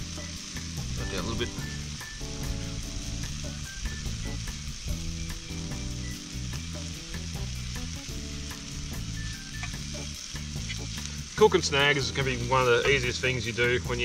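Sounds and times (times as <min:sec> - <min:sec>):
light background music: 0:00.0 - 0:14.0
onions sizzling in frying pan: 0:00.0 - 0:14.0.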